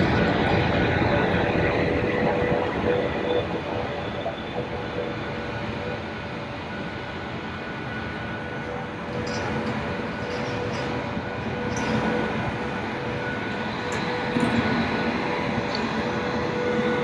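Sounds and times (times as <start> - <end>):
train rolling on rails: 0.0 - 17.0.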